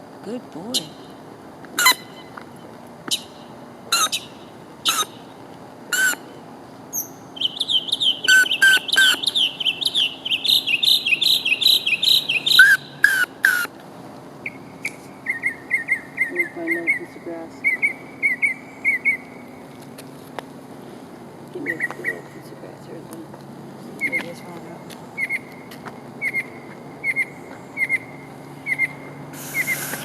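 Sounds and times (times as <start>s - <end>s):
mockingbird singing: 0.3s - 1.2s, 1.8s - 13.7s, 14.4s - 19.7s, 21.6s - 23.2s, 23.9s - 30.0s.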